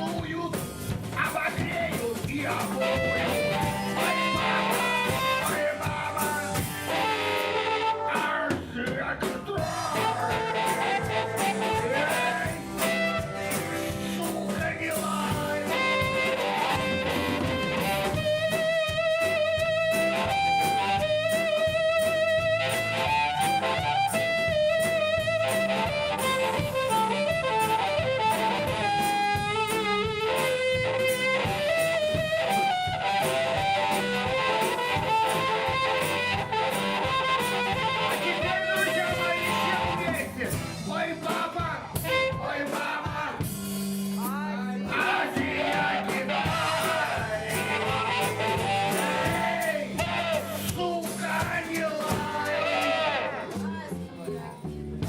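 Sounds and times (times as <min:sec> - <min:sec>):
live blues-rock band: 0:00.0 - 0:55.0.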